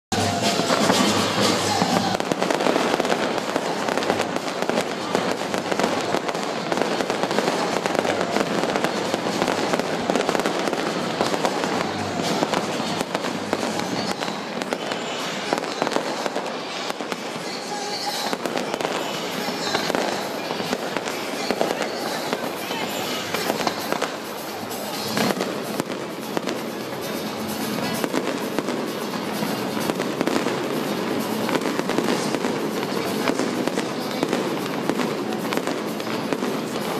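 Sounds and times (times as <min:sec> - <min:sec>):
fireworks bursting and crackling: 0:00.1 - 0:36.9.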